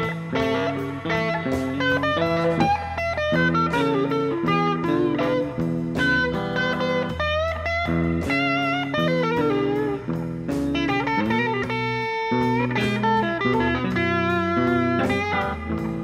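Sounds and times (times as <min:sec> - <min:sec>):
blues band playing: 0:00.0 - 0:16.0
electric guitar solo: 0:00.0 - 0:16.0.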